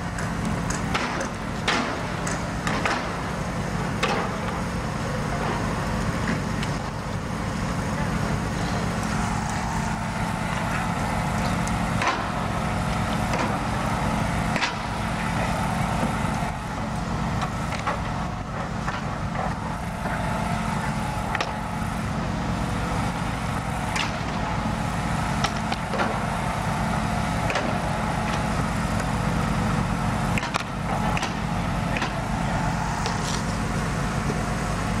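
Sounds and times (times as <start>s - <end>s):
heavy engine running: 0.0s - 35.0s.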